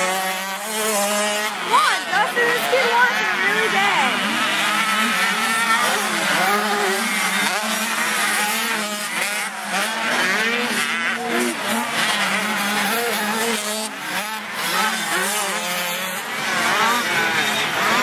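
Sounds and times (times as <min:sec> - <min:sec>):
motocross bikes revving: 0:00.0 - 0:18.0.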